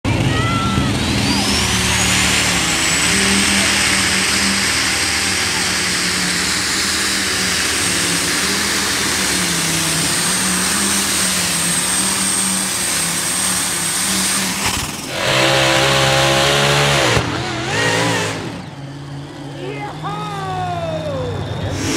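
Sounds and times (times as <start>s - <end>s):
high engine whine: 0.0s - 21.9s
tractor engine at full power: 0.0s - 21.9s
tractor engine revving high: 0.0s - 21.9s.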